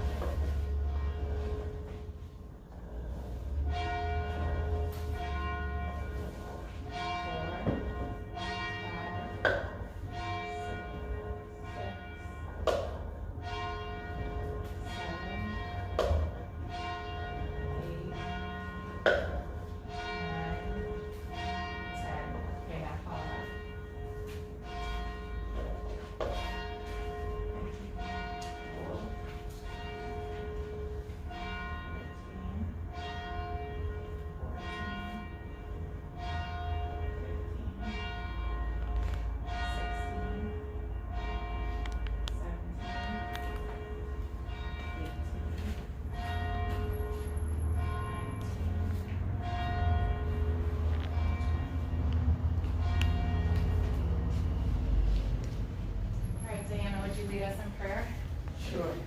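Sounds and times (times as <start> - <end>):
church bell tolling: 0.0 - 59.0.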